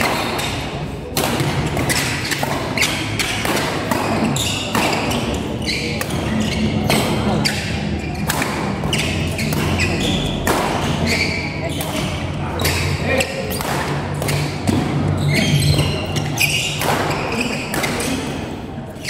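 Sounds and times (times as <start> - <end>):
rackets hitting shuttlecock: 0.0 - 19.0
shoes squeaking on court: 1.7 - 19.0.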